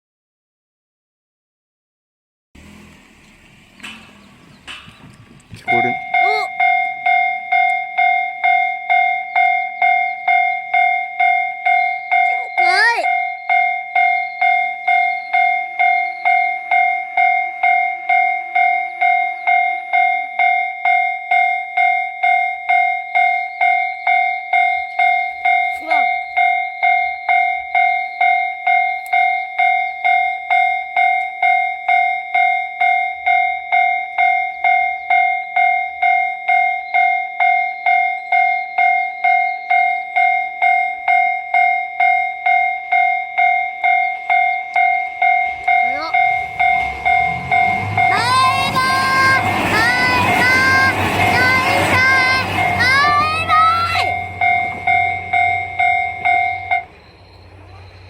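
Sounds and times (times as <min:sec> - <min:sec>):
level crossing alarm bell: 0:05.6 - 0:58.0.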